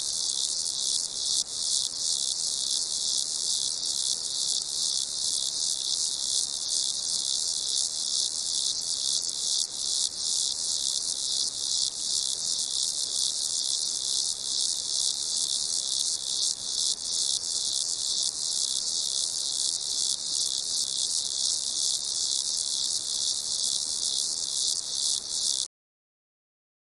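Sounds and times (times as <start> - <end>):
crickets chirping: 0.0 - 25.7.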